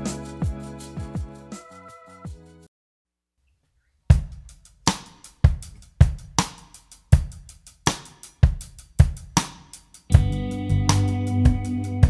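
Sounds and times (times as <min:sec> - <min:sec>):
drum kit playing steady beat: 0:00.0 - 0:02.6, 0:04.1 - 0:12.0.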